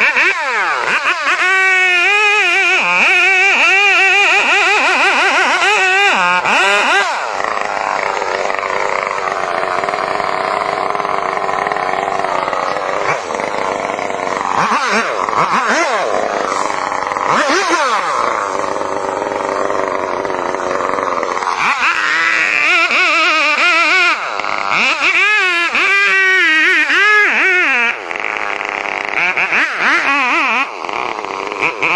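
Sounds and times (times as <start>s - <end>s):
chainsaw engine revving: 0.0s - 31.9s.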